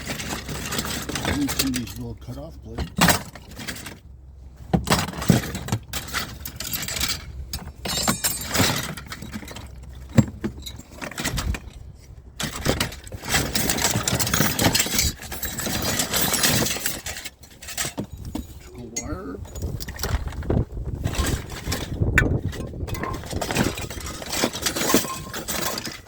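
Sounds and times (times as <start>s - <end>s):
metal tools clinking: 0.0s - 4.0s, 4.9s - 26.0s.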